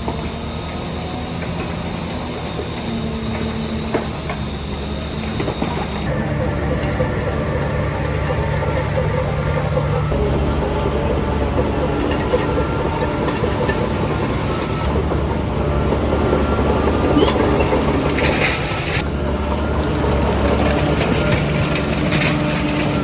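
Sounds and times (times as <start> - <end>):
bulldozer diesel engine running: 0.0 - 23.0
tracks rattling and clanking: 0.0 - 23.0.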